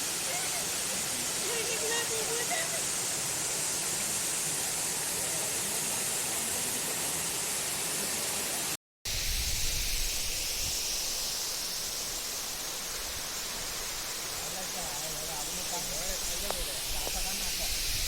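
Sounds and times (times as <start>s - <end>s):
waterfall rushing: 0.0s - 8.7s, 10.0s - 18.0s.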